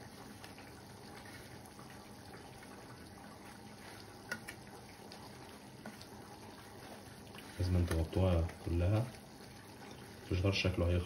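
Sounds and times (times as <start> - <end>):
sauce simmering and bubbling: 0.0 - 11.0.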